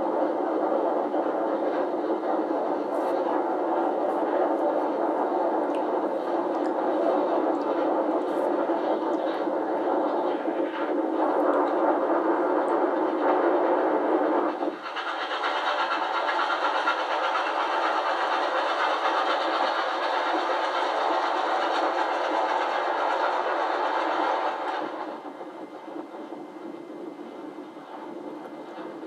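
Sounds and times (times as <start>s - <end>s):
train rushing and rattling: 0.0s - 29.0s.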